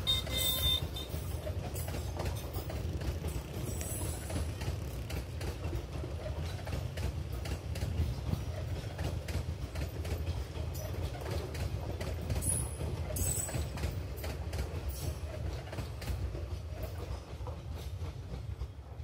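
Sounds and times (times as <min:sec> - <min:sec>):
train coaches rumbling: 0:00.0 - 0:19.0
wheels clacking over rail joints: 0:00.0 - 0:19.0.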